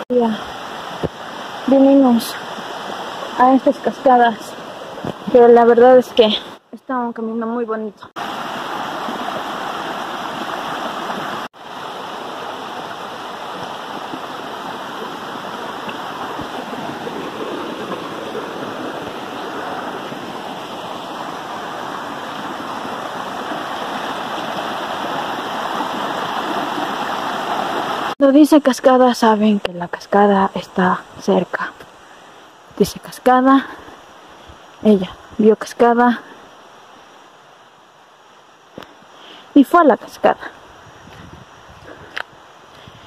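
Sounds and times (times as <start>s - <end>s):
stream rushing over stones: 0.0s - 6.6s, 8.1s - 43.0s.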